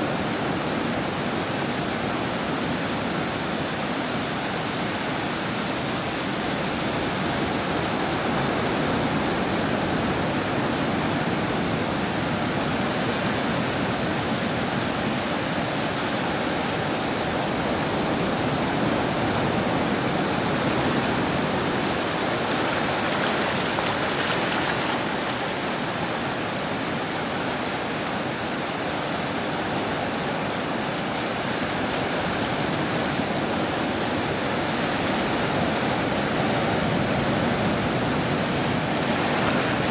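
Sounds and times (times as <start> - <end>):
surf washing over rocks: 0.0 - 39.9.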